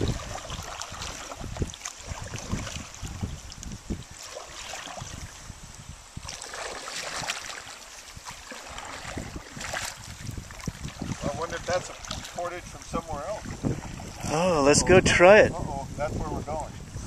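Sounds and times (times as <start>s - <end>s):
paddle splashing water: 0.0s - 15.3s.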